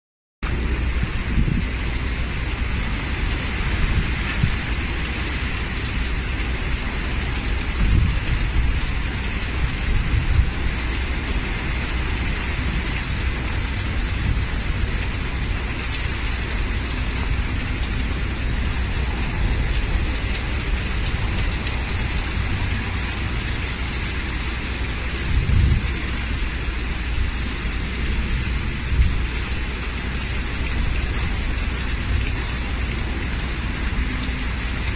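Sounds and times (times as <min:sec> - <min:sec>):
heavy rain hissing: 0:00.5 - 0:34.9
strong wind gusts: 0:00.5 - 0:34.9.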